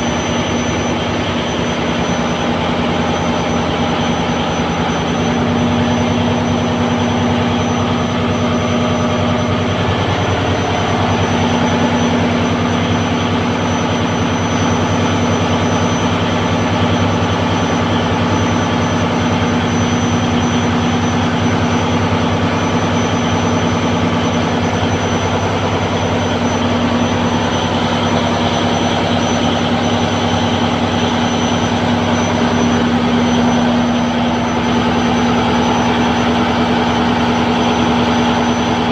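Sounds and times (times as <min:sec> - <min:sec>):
boat engine running with deep hum: 0:00.0 - 0:38.9.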